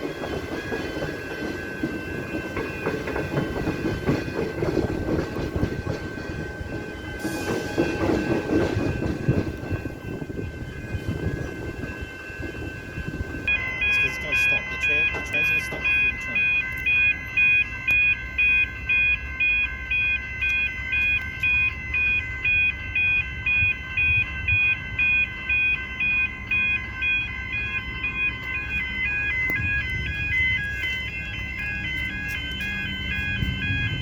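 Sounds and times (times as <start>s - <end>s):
level crossing bells ringing: 0.0s - 34.0s.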